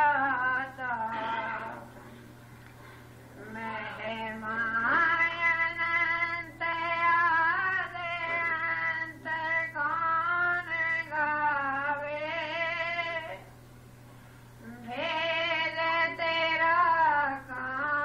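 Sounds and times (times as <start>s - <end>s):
woman singing devotional song: 0.0s - 2.0s, 3.4s - 13.5s, 14.6s - 18.0s
steady low hum: 0.0s - 18.0s.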